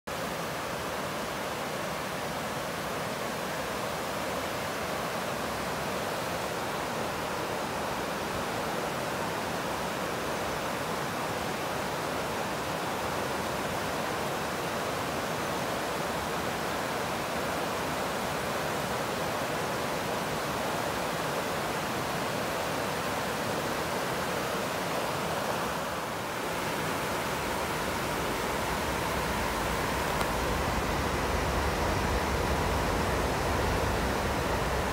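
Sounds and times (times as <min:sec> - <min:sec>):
river water rushing over rocks: 0:00.1 - 0:34.9.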